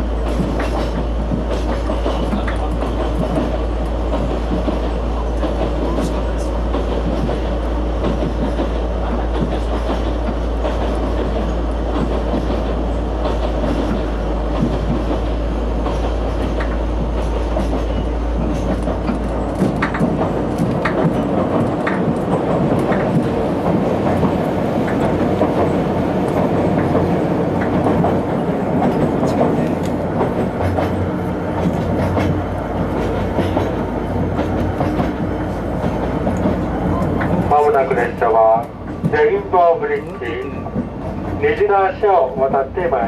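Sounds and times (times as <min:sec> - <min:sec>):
wheels clicking over rail joints: 0:00.0 - 0:42.6
train wheels rumbling on rail: 0:00.0 - 0:43.0.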